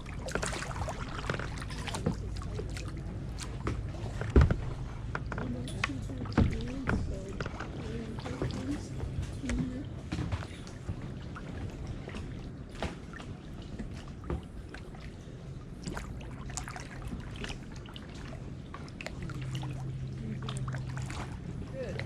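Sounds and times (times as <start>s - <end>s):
paddle blades dipping in water: 0.0s - 22.0s
small splashes and knocks: 0.0s - 22.0s
water dripping off paddles: 0.0s - 22.0s.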